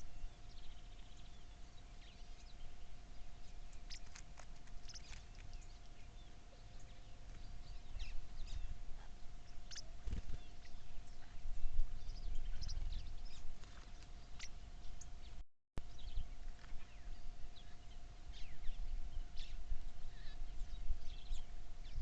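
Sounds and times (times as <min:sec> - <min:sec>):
birds chirping: 0:00.0 - 0:22.0
faint steady hum: 0:00.0 - 0:22.0.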